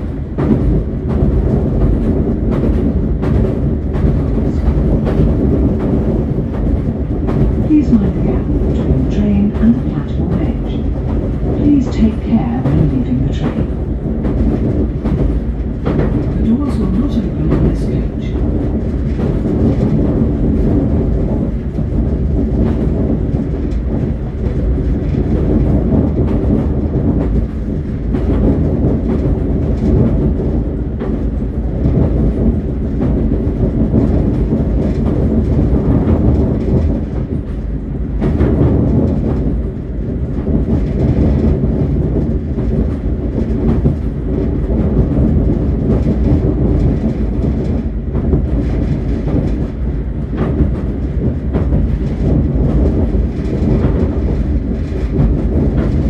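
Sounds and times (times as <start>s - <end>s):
train clattering over track: 0.0s - 56.0s
train wheels rumbling on rails: 0.0s - 56.0s.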